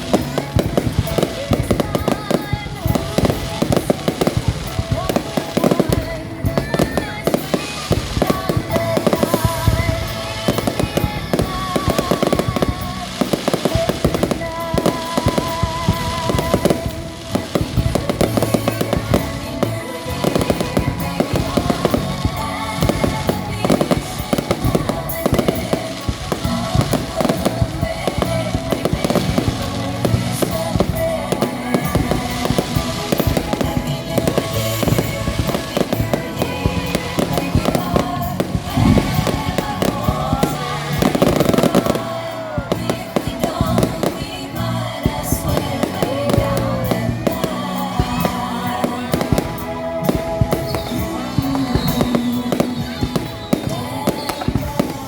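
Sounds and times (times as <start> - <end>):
fireworks bangs and crackles: 0.0 - 55.0
music playing: 0.0 - 55.0.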